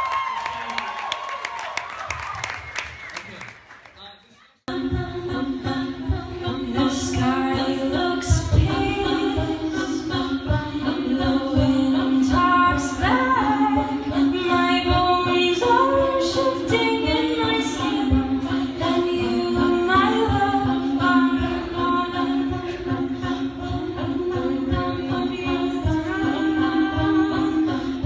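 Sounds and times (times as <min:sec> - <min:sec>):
a cappella group singing: 0:04.7 - 0:28.0.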